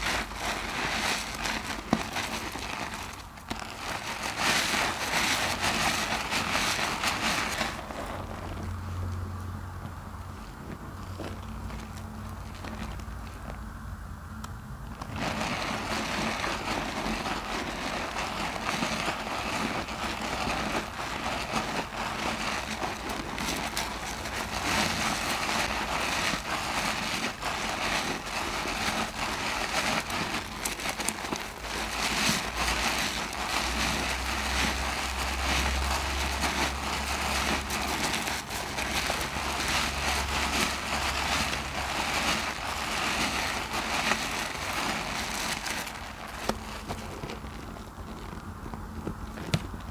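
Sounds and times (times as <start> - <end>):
wet squelching of soapy loofah: 0.0 - 9.2, 15.0 - 48.6.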